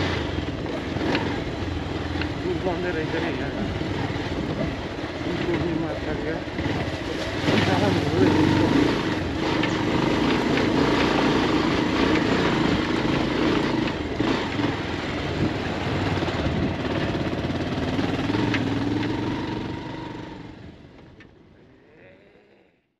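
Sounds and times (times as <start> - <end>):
motorcycle knocking over ruts: 0.0 - 20.2
motorcycle engine running: 0.0 - 22.4.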